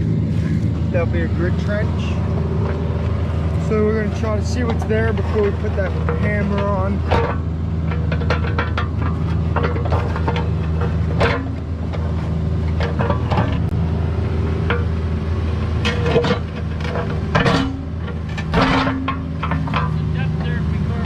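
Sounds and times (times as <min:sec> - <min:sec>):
steel bucket scraping stony ground: 0:00.0 - 0:13.7, 0:15.7 - 0:21.0
diesel engine running: 0:00.0 - 0:21.0.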